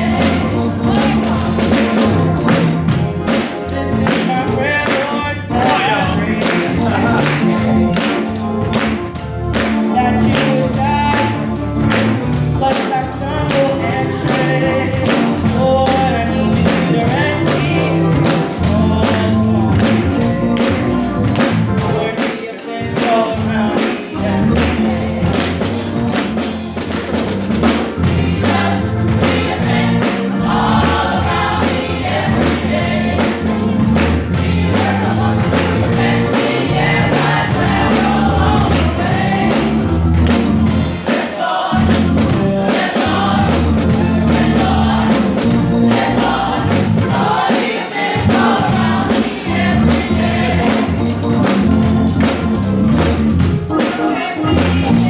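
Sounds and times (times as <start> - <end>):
band with driving beat: 0.0 - 55.0
gospel choir singing: 0.0 - 55.0.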